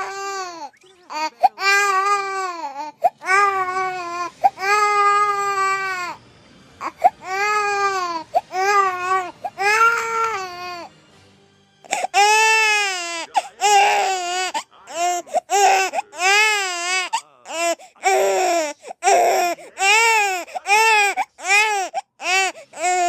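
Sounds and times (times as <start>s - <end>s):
infant crying and gasping: 0.0s - 6.2s, 6.8s - 10.9s, 11.9s - 23.0s.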